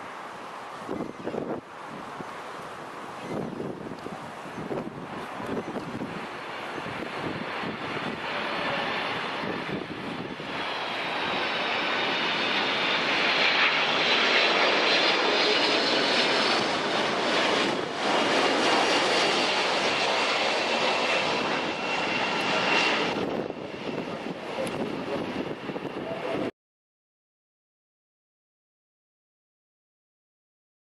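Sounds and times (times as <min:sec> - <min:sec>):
jet airliner engines roaring: 0:00.0 - 0:26.5.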